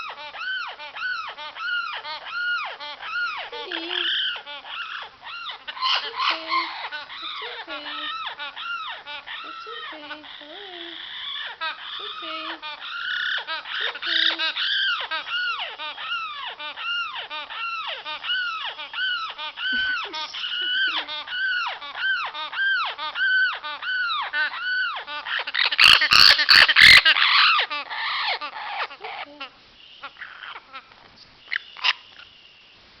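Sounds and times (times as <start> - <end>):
parrot calling: 0.0 - 32.6.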